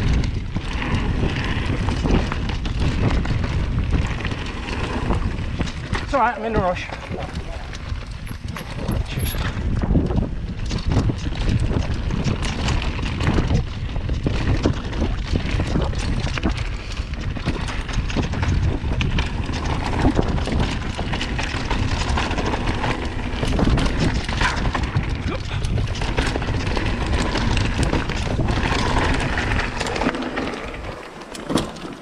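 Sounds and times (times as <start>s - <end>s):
bike clattering over stones: 0.0s - 32.0s
wind buffeting microphone: 0.0s - 32.0s.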